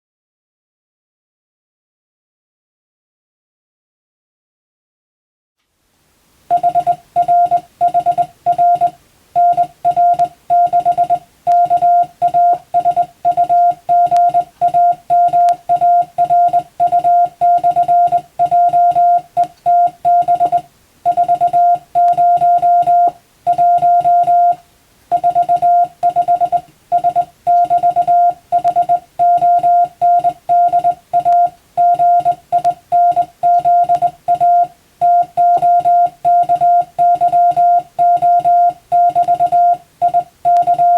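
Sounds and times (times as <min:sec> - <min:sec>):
morse code tone: 0:06.5 - 0:40.9.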